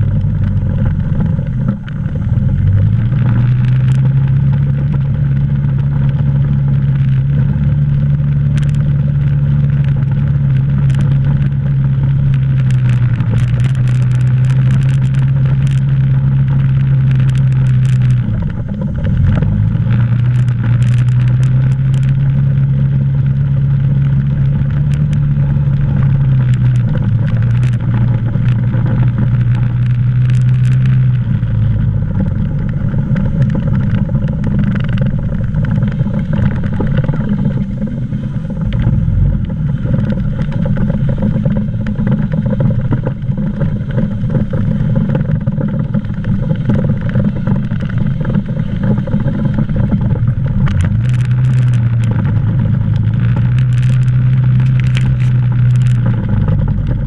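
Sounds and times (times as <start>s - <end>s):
atv engine running: 0.0s - 57.0s
faint clicks: 8.0s - 57.0s.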